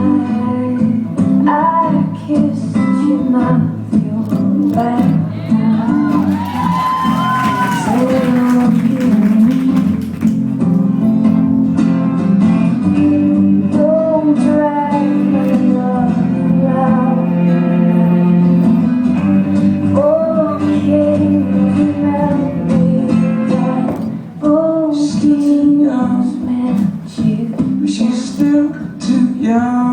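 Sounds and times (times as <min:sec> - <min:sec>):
person singing: 0:00.0 - 0:11.1, 0:12.1 - 0:29.9
guitar accompaniment: 0:00.0 - 0:29.9.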